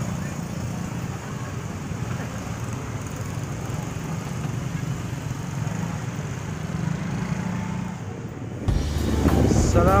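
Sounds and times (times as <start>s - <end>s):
motorcycle engines droning: 0.0s - 10.0s.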